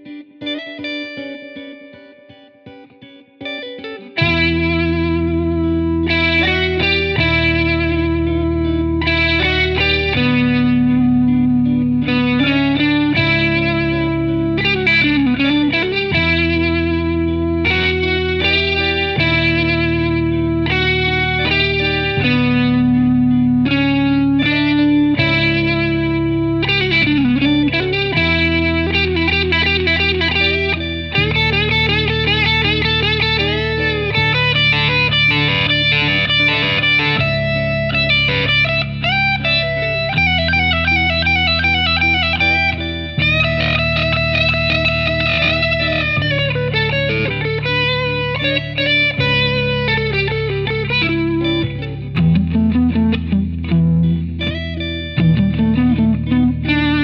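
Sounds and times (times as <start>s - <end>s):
lead guitar melody: 0.0s - 57.0s
sustained guitar chords: 0.0s - 57.0s.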